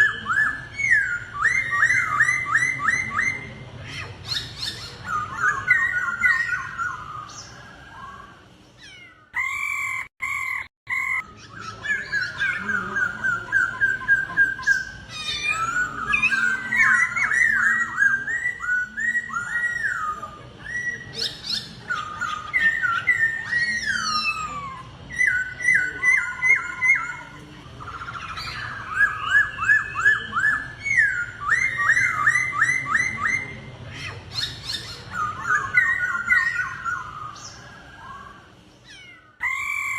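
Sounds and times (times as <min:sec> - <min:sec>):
birds singing whistled phrases: 0:00.0 - 0:39.9.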